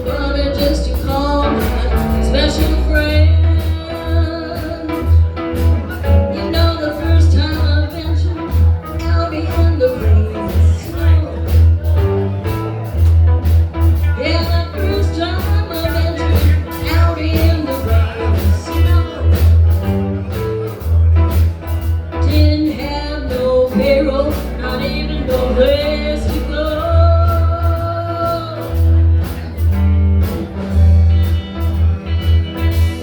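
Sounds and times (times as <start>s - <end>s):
person singing: 0.0s - 12.7s, 14.0s - 21.5s, 22.1s - 29.6s
blues band playing: 0.0s - 33.0s.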